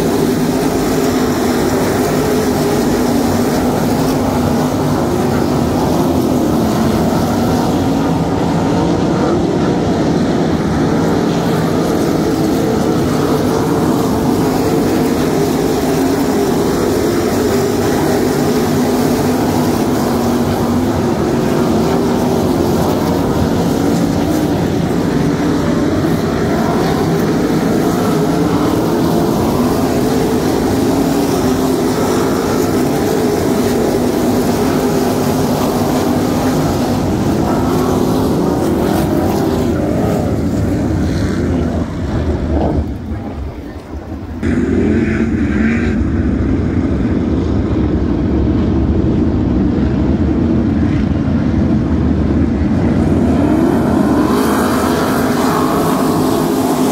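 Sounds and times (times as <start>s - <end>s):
race car engines droning: 0.0s - 56.9s.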